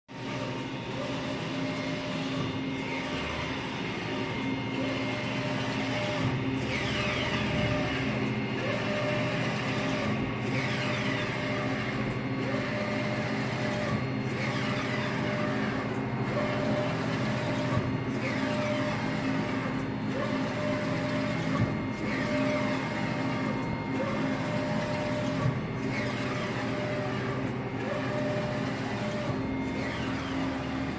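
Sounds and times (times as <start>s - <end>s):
printer carriage motor whine: 0.1s - 30.9s.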